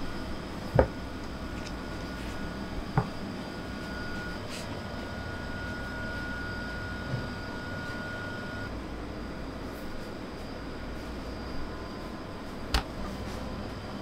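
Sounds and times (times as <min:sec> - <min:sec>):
faint high whine: 0:00.0 - 0:14.0
machinery hum: 0:00.0 - 0:14.0.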